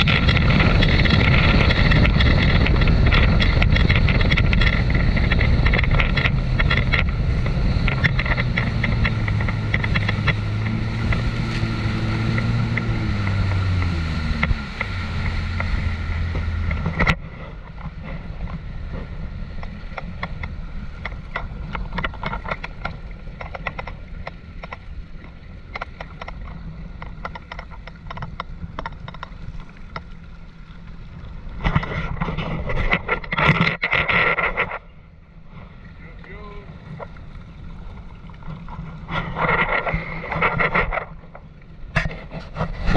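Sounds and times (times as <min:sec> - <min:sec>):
jet ski engine: 0:00.0 - 0:42.9
water spray and wind: 0:00.0 - 0:42.9.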